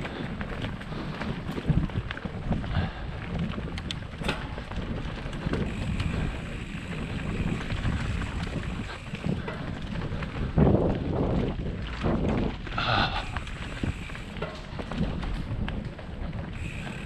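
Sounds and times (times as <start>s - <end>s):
bike clicks and knocks: 0.0s - 17.0s
bike rolling on dirt trail: 0.0s - 17.0s
wind buffeting microphone: 0.0s - 17.0s.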